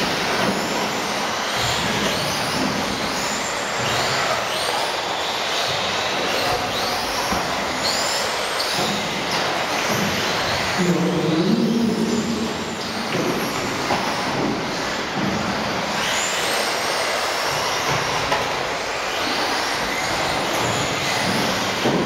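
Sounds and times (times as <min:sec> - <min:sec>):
electric toy cars whining: 0:00.0 - 0:22.0.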